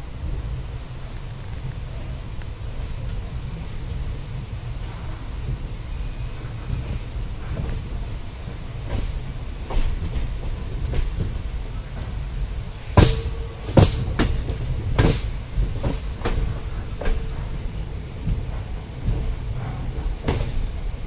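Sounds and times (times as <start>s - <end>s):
train coaches rumbling: 0.0s - 21.0s
train wheels clacking: 1.1s - 21.0s.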